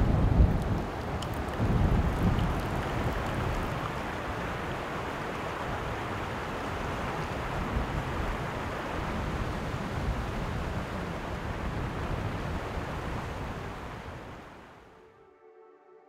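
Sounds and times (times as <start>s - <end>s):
wind buffeting microphone: 0.0s - 14.4s
river water flowing: 0.4s - 14.9s.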